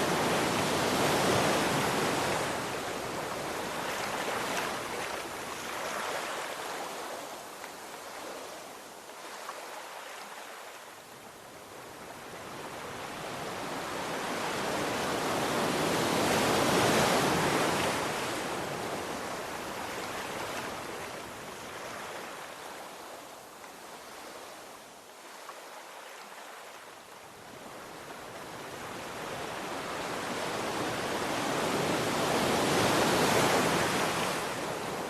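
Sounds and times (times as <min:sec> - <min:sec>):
sea waves washing on shore: 0:00.0 - 0:35.0.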